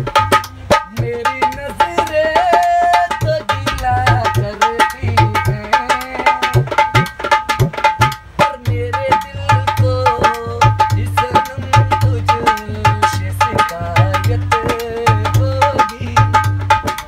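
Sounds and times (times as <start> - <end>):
hand-played barrel drum: 0.0 - 17.0
man singing: 0.0 - 17.0.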